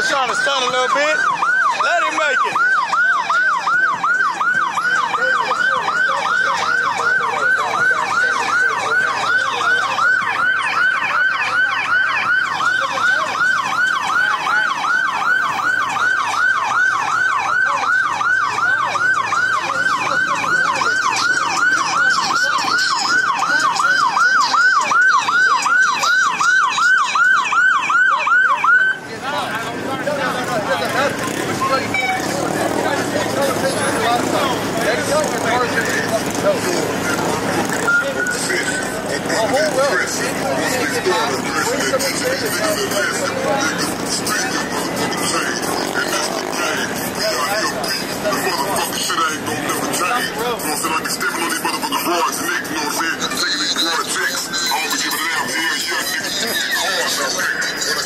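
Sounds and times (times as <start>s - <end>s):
police siren yelping: 0.0s - 58.0s.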